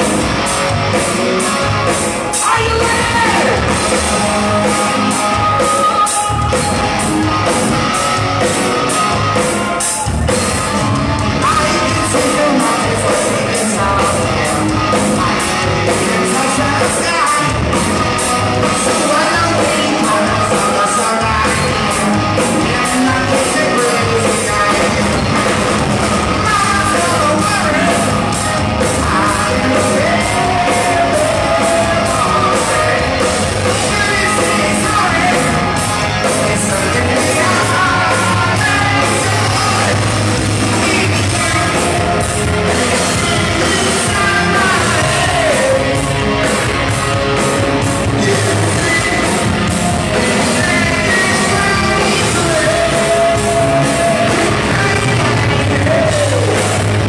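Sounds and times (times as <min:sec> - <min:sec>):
bass guitar: 0:00.0 - 0:57.0
drums: 0:00.0 - 0:57.0
electric guitars: 0:00.0 - 0:57.0
person singing: 0:01.8 - 0:57.0.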